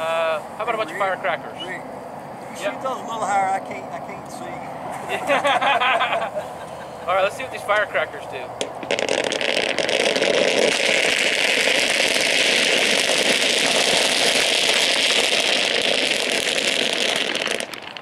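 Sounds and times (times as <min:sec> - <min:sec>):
firecrackers crackling: 0:00.0 - 0:01.8, 0:04.2 - 0:18.0.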